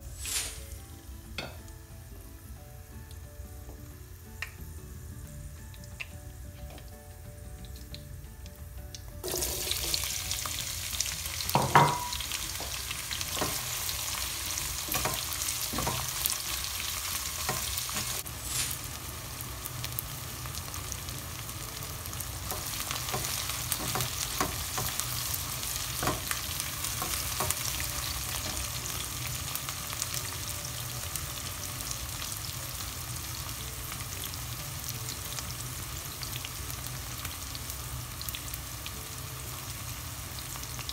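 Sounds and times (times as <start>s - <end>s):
onions sizzling in hot oil: 0.0s - 7.0s, 8.9s - 40.9s.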